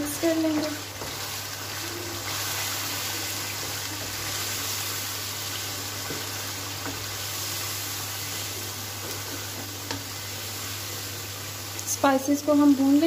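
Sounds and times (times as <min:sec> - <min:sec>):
masala sizzling in hot oil: 0:00.0 - 0:13.0.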